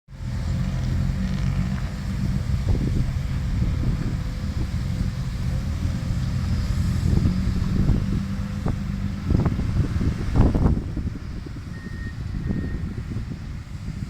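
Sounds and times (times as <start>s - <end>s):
excavator diesel engine running: 0.1s - 14.0s
wind noise on microphone: 0.2s - 14.0s.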